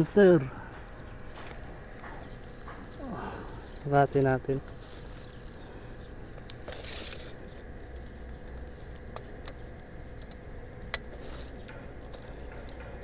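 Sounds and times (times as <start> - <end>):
rustling and crackling of reed stalks: 0.0 - 13.0.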